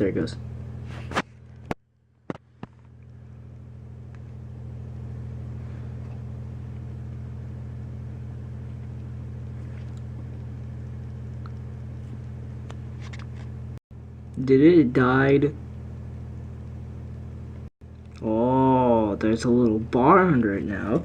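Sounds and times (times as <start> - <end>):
buzzy electrical hum: 0.0 - 21.0.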